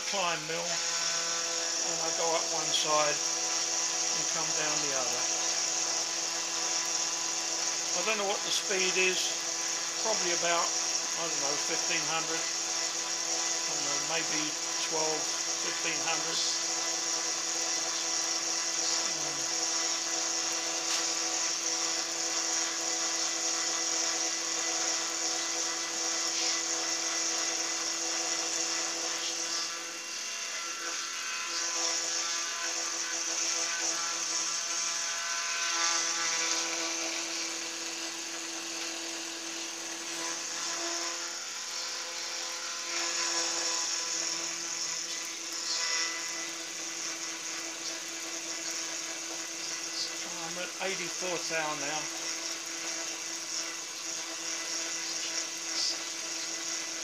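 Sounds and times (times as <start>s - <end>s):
milling machine cutting metal: 0.0s - 57.0s
motor whine: 0.0s - 57.0s.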